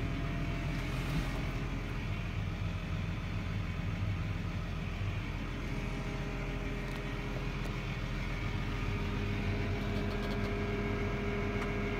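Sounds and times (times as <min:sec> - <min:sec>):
steady high whine: 0:00.0 - 0:11.9
tractor diesel engine running: 0:00.0 - 0:11.9.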